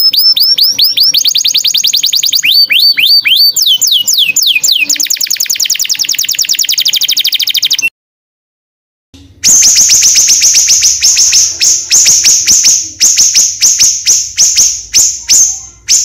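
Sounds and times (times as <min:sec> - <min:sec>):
songbird singing: 0:00.0 - 0:07.9, 0:09.4 - 0:16.0.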